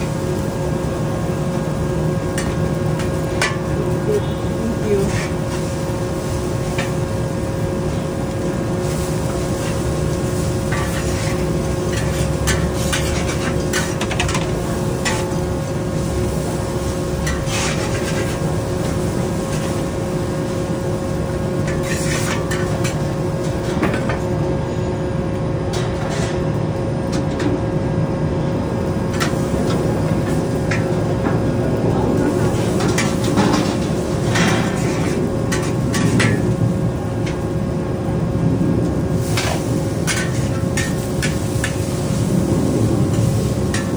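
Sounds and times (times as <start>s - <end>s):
burner running: 0.0s - 43.9s.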